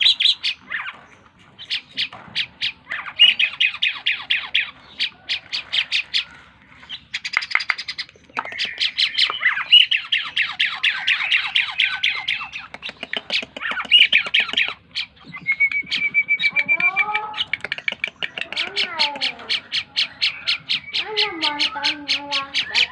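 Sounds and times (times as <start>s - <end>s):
starling chattering song: 0.0s - 22.9s.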